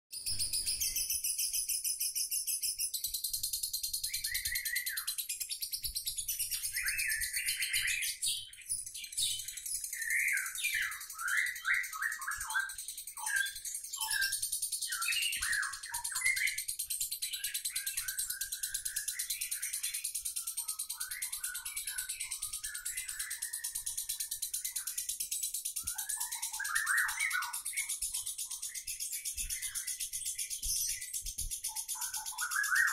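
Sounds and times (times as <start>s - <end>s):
down-slurred bird chirps: 0.1s - 32.9s.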